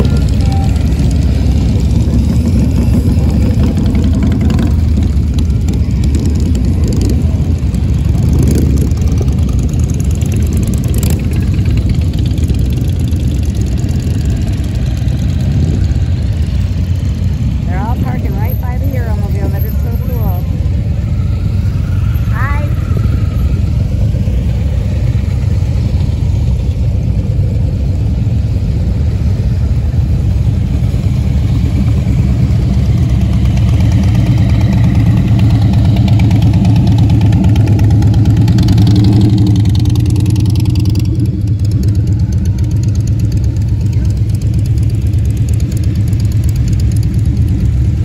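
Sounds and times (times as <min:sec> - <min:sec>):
motorcycles passing at low revs: 0:00.0 - 0:48.0.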